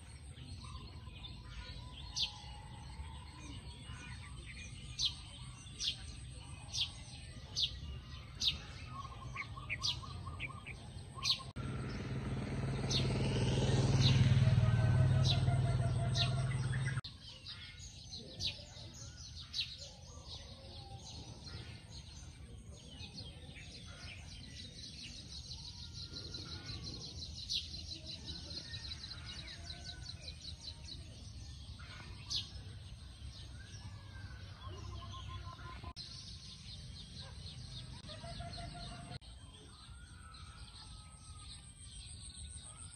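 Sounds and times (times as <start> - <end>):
birds chirping and calling: 0.0 - 42.9.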